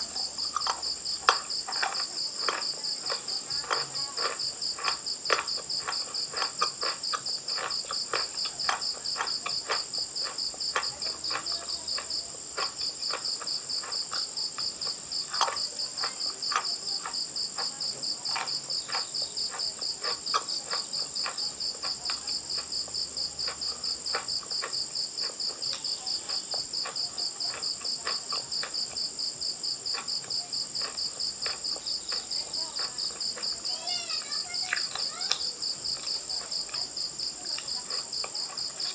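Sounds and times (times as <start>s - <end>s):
chalk crunching and chewing: 0.0s - 38.9s
cricket chirping: 0.0s - 38.9s.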